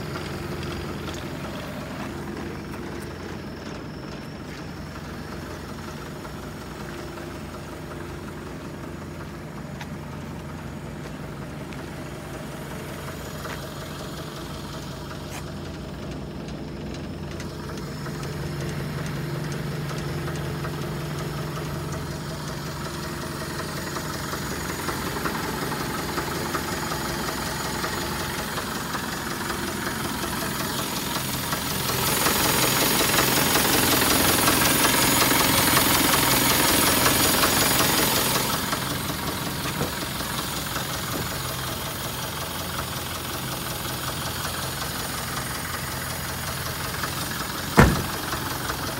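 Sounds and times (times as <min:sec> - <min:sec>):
truck engine idling with clatter: 0:00.0 - 0:48.9.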